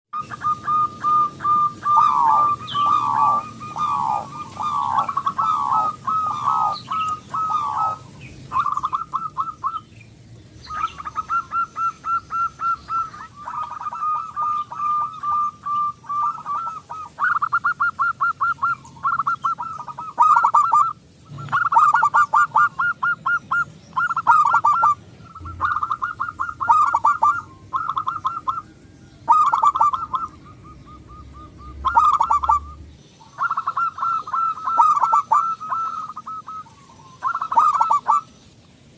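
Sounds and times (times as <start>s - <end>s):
dove cooing: 0.2s - 10.0s, 10.6s - 38.4s.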